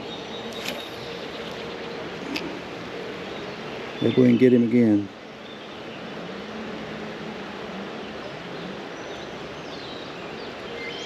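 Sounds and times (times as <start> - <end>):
faint wavering low hum: 0.0 - 11.0.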